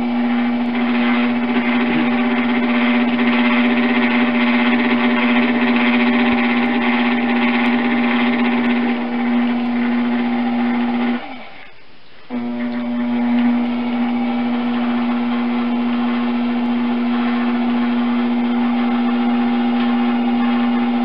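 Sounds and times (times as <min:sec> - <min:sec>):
potter's wheel motor humming: 0:00.0 - 0:21.0.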